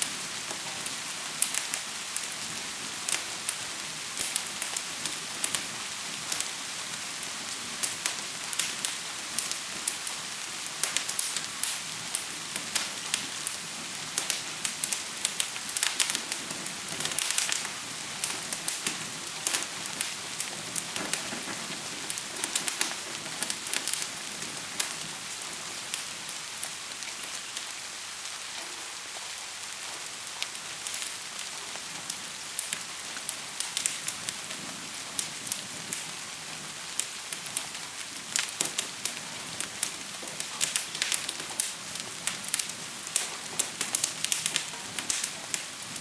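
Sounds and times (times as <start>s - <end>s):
fire crackling: 0.0s - 46.0s
gentle rain hissing: 0.0s - 46.0s.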